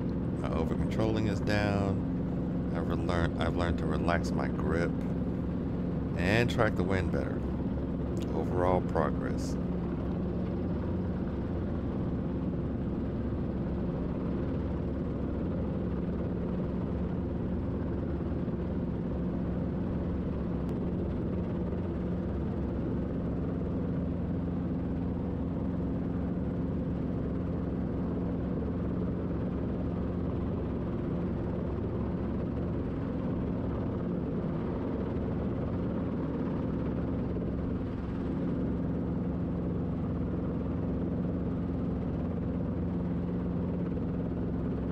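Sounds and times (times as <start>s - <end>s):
helicopter engine and rotors drone: 0.0s - 44.9s.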